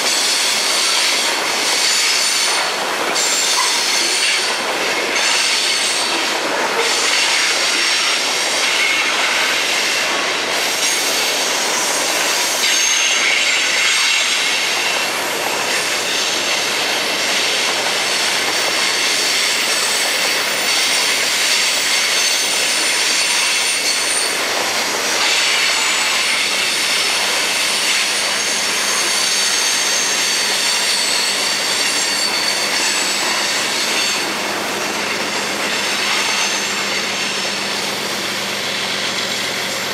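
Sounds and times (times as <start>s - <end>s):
freight train rumble: 0.0s - 39.9s
train wheels squealing: 0.0s - 39.9s.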